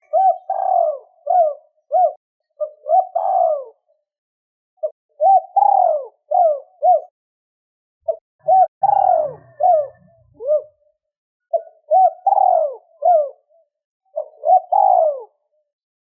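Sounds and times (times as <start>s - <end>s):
dove cooing: 0.0s - 4.0s, 4.8s - 7.1s, 8.1s - 15.6s.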